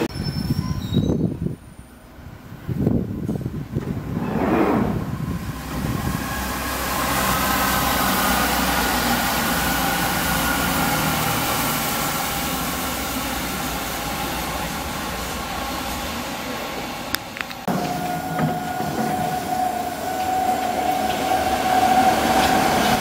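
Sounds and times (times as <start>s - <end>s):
diesel train engines: 0.0s - 23.0s
wheel and rail noise: 1.8s - 23.0s.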